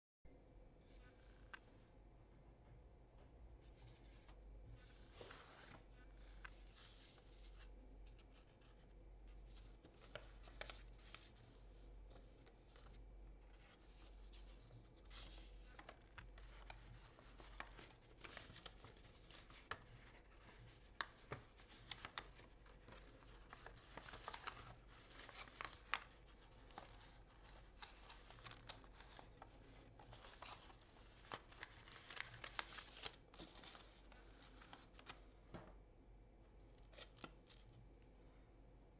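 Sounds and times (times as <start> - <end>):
soft paper crackles: 3.6 - 35.7, 36.8 - 37.8
paper rustling and crinkling: 3.7 - 35.3.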